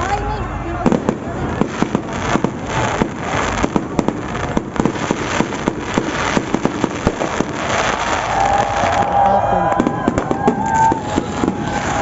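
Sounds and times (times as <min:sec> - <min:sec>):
fireworks crackling pops: 0:00.0 - 0:12.0.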